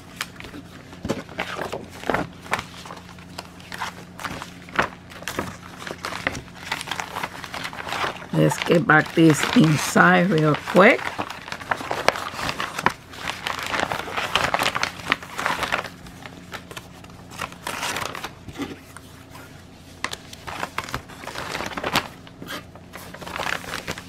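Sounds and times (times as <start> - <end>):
plastic bag and paper crinkling: 0.0 - 24.0.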